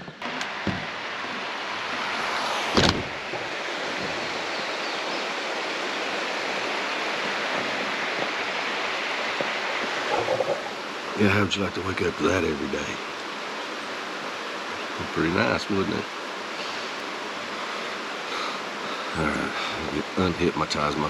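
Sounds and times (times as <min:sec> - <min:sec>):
stream flowing: 0:00.2 - 0:21.0.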